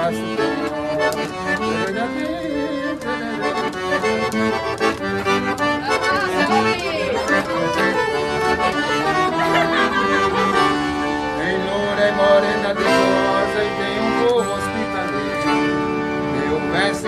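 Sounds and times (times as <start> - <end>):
accordion playing: 0.0 - 17.0.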